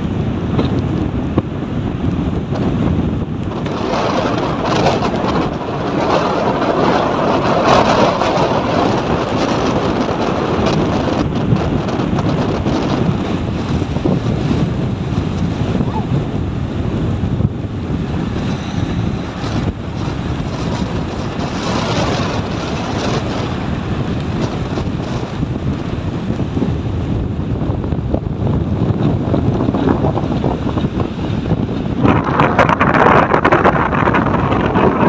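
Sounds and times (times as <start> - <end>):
wind gusting on microphone: 0.0 - 35.0.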